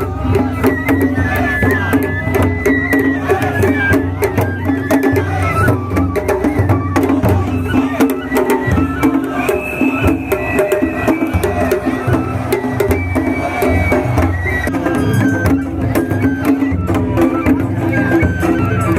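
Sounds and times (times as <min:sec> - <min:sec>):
festival drums: 0:00.0 - 0:18.9.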